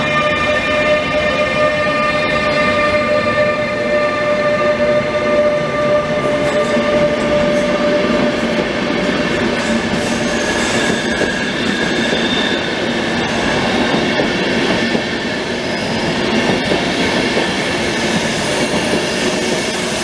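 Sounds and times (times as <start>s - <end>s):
rumble of train wheels: 0.0s - 20.0s
train whine: 0.0s - 20.0s.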